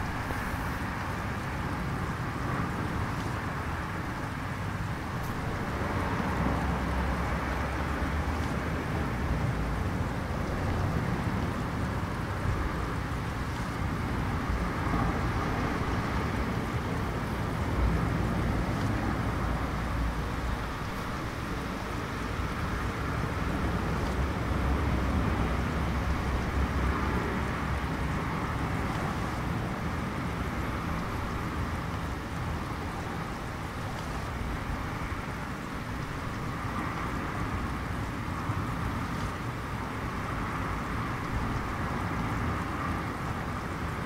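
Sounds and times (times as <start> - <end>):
low constant rumble: 0.0 - 44.0
rain hiss: 0.0 - 44.0.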